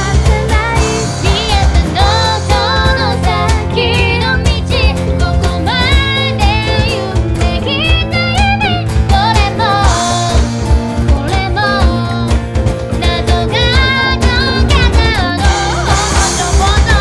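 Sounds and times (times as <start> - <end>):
lead vocal singing: 0.0 - 7.6, 8.9 - 17.0
pop-rock band playing: 0.0 - 17.0.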